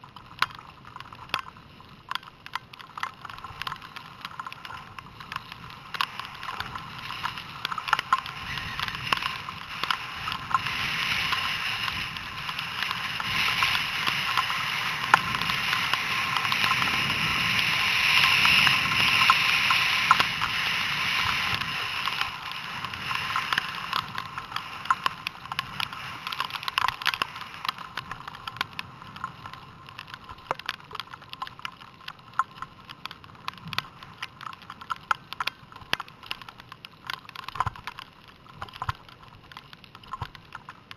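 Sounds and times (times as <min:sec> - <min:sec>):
skis scraping over snow: 0:00.0 - 0:36.5.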